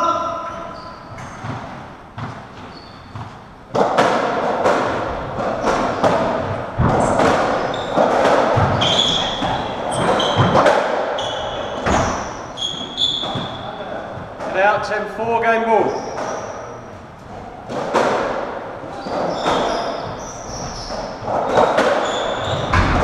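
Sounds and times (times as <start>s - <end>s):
shoes squeaking on wooden floor: 0.0s - 3.8s, 4.6s - 18.0s, 18.8s - 23.0s
ball hitting rackets and walls: 0.8s - 14.7s, 17.6s - 23.0s.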